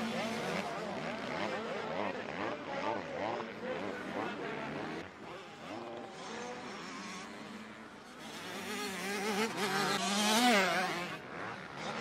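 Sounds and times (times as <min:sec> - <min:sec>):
motocross bike engine buzzing: 0:00.0 - 0:12.0.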